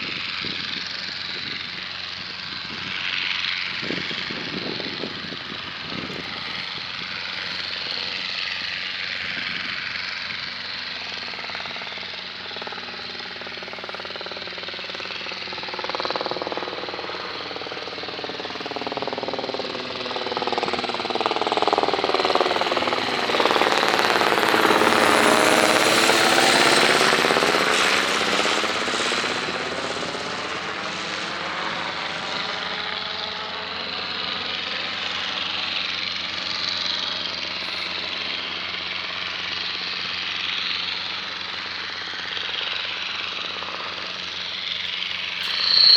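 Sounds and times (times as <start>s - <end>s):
propeller aircraft droning past: 0.0s - 45.9s.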